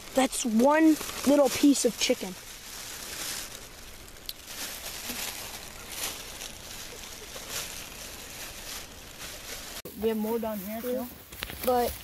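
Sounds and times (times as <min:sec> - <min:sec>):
bag rustling: 0:00.0 - 0:12.0.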